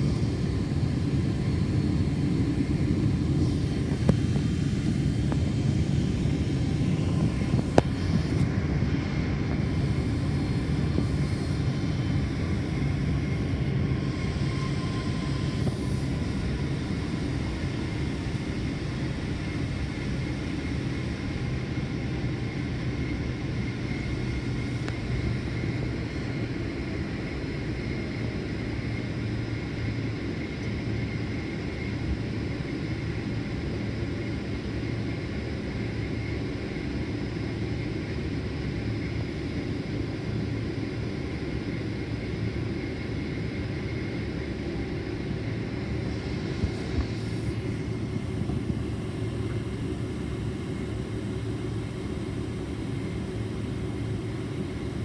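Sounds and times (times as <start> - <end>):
engine and airflow rumble: 0.0 - 55.0
faint steady hum: 0.0 - 55.0.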